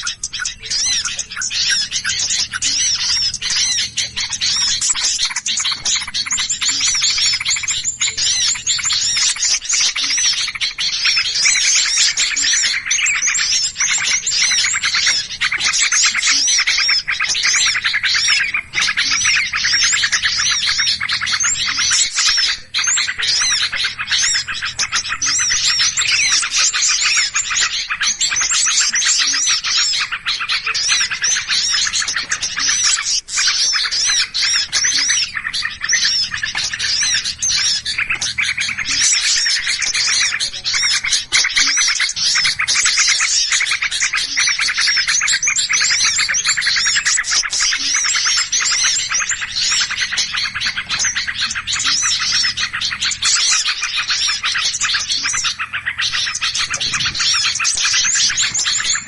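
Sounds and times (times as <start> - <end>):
songbird flock chattering and chirping: 0.0 - 59.0.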